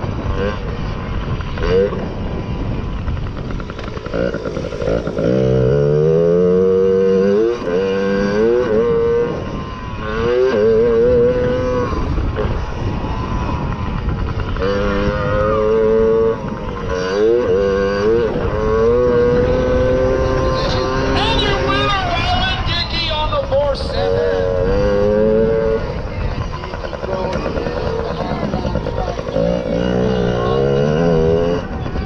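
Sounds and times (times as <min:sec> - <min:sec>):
motorbike engine revving: 0:00.0 - 0:32.0
wind on microphone: 0:00.0 - 0:32.0.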